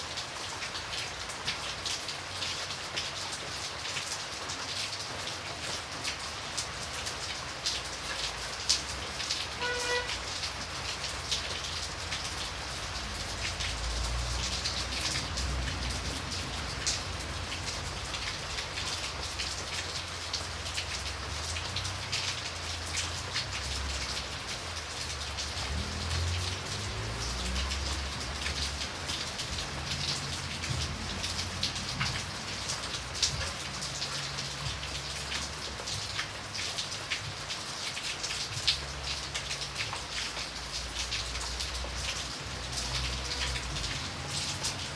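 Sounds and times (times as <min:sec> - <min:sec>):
light rain hissing: 0:00.0 - 0:44.9
raindrops tapping on surfaces: 0:00.0 - 0:44.9.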